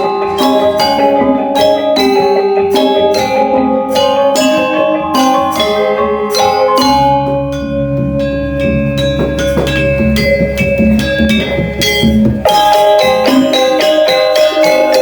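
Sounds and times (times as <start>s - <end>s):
metallophones striking ringing notes: 0.0s - 15.0s.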